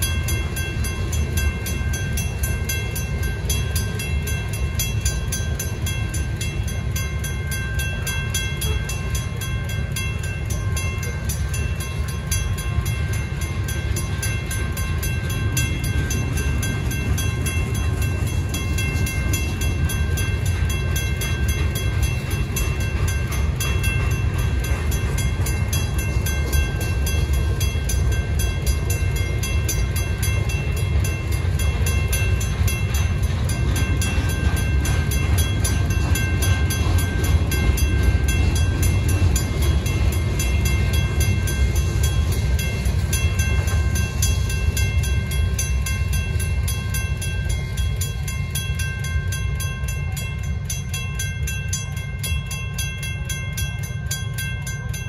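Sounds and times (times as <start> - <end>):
crossing signal bells ringing: 0.0 - 55.0
train wheels rumbling on rail: 0.0 - 55.0.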